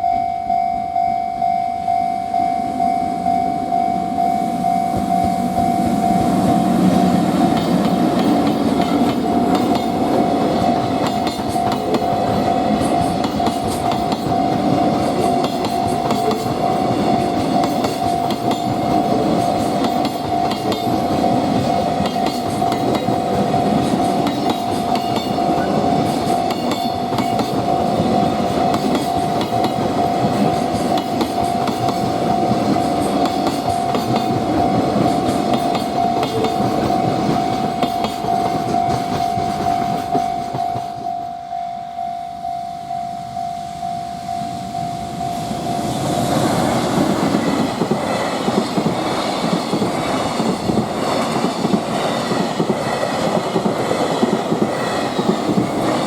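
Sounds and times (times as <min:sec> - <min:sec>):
steady high tone: 0:00.0 - 0:52.3
freight train wheels clacking: 0:04.8 - 0:41.4, 0:45.4 - 0:56.0.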